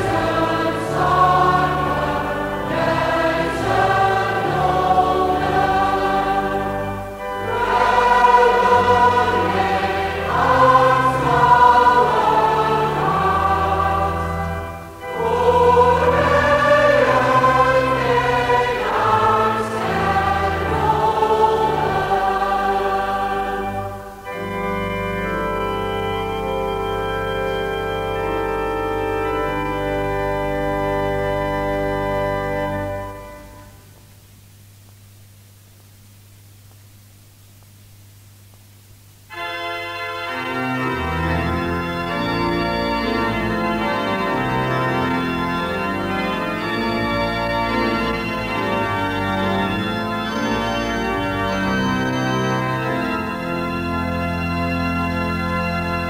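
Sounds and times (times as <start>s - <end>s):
pipe organ chords: 0.0s - 34.2s, 39.3s - 56.0s
congregation singing slowly: 0.0s - 34.4s, 38.4s - 56.0s.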